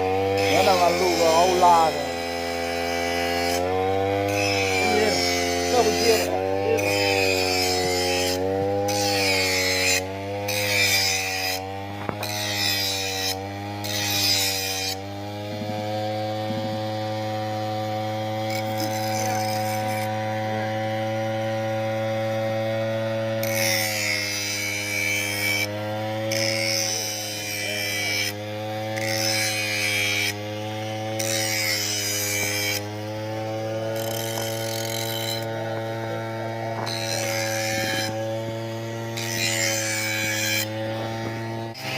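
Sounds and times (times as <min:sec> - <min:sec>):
brush cutter engine running: 0:00.0 - 0:41.9.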